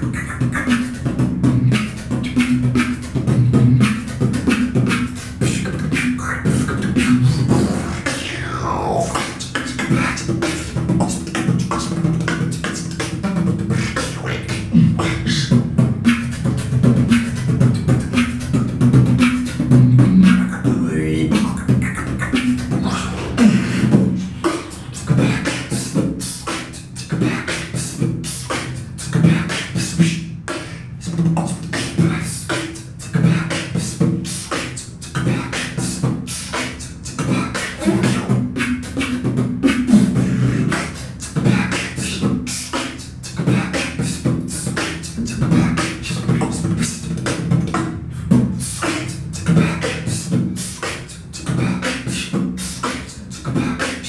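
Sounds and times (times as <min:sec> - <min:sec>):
beatboxing drum beats: 0:00.0 - 0:54.0
vocal bass line: 0:00.0 - 0:54.0.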